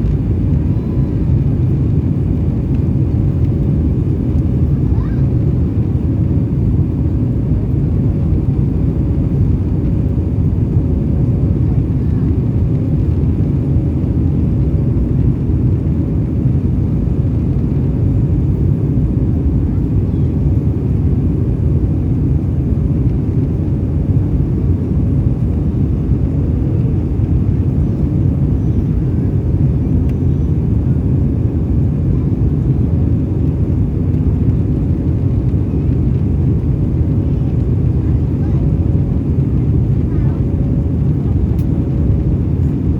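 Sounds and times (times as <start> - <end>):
jet engine rumble in cabin: 0.0 - 42.9.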